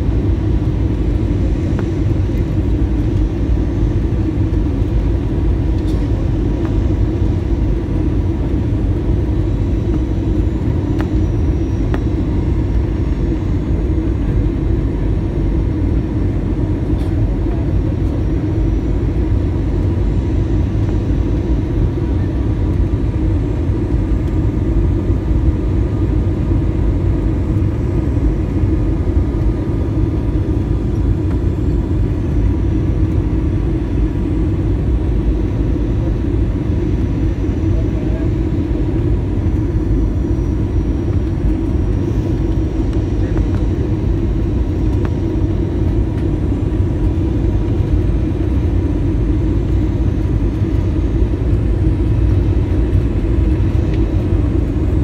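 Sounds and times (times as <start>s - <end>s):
airliner engines rumbling: 0.0s - 55.0s.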